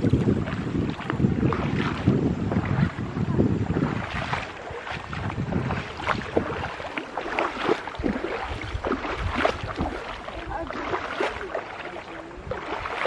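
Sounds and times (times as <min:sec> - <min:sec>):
stream water splashing and gurgling: 0:00.0 - 0:13.0.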